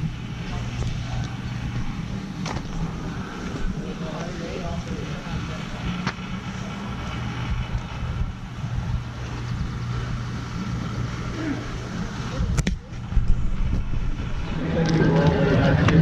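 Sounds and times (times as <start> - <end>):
low hum: 0.0 - 16.0
outdoor background rumble: 0.0 - 16.0.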